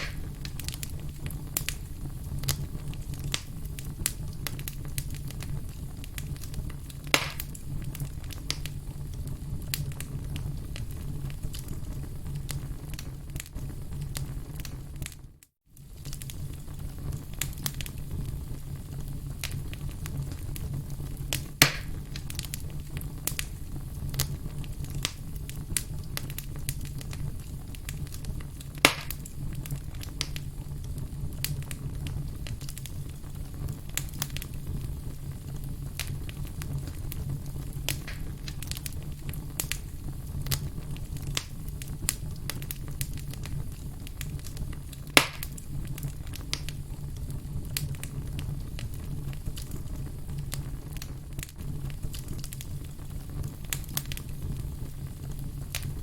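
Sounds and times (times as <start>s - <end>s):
sharp fire pops: 0.0s - 15.2s, 15.8s - 56.0s
campfire crackling: 0.0s - 56.0s.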